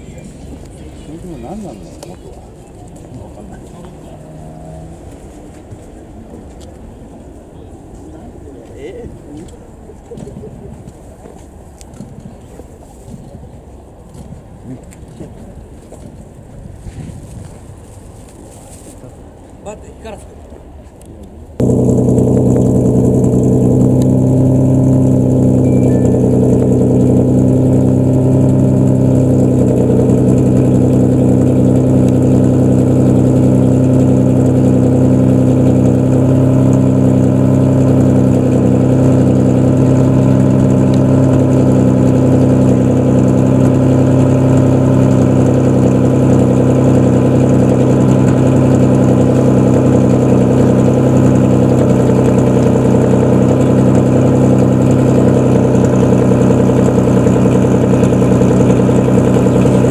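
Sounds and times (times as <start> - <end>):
car engine idling: 0.0 - 16.4, 21.4 - 59.9.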